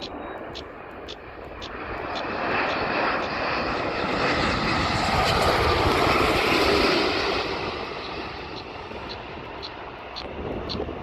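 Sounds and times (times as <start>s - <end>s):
airplane engines roaring past: 0.0s - 11.0s.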